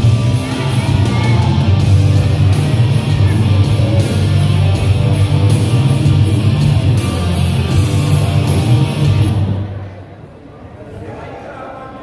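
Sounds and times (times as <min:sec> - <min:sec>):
heavy rock music with electric guitar: 0:00.0 - 0:09.7.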